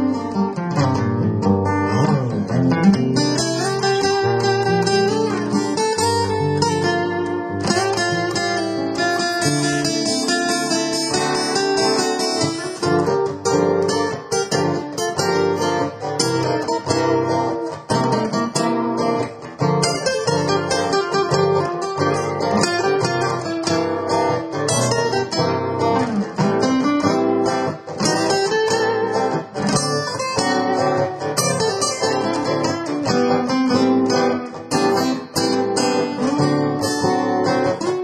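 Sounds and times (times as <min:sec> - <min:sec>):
acoustic guitar music: 0:00.0 - 0:38.0.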